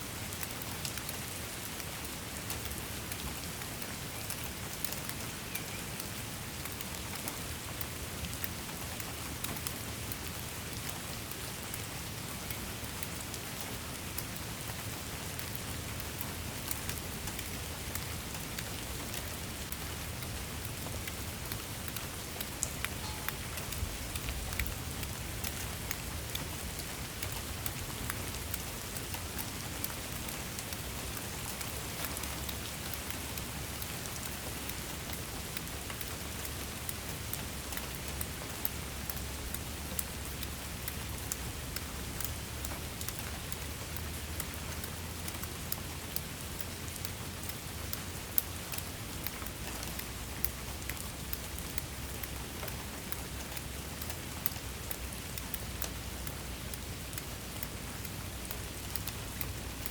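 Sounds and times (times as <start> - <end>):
steady rain hiss: 0.0 - 59.9
raindrop ticks: 0.1 - 59.9.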